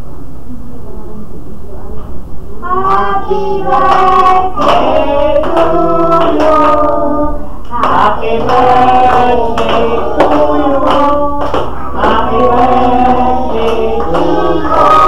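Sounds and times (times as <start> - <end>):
group of people singing: 2.6 - 15.0.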